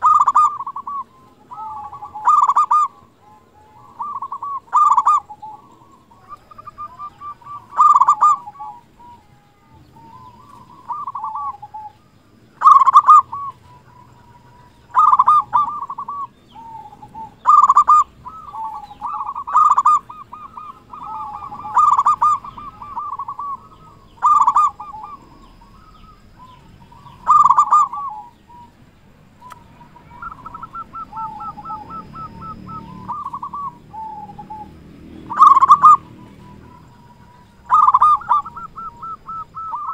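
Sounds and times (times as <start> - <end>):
soft trilling coos: 0.0 - 28.8, 29.5 - 39.9
dove rolling coos: 0.0 - 28.9, 29.5 - 39.9.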